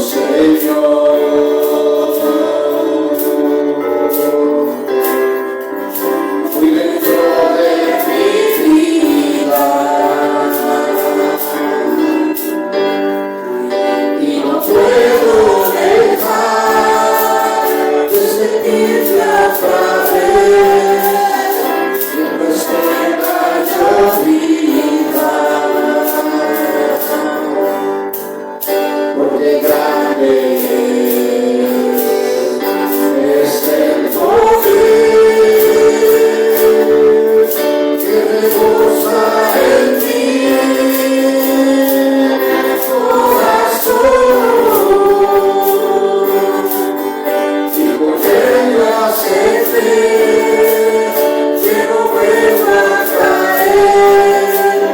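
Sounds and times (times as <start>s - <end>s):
congregation singing a hymn: 0.0s - 54.9s
rhythmic accompaniment: 0.0s - 54.9s.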